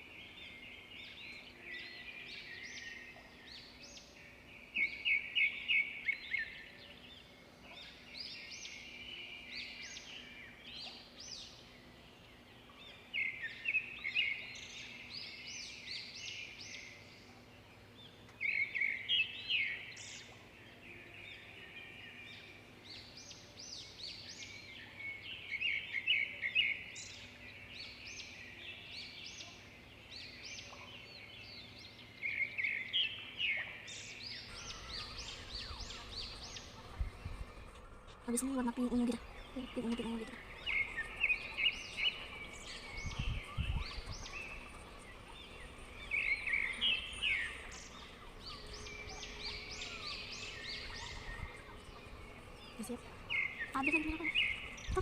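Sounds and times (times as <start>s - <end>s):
small songbird chirping: 0.0s - 55.0s.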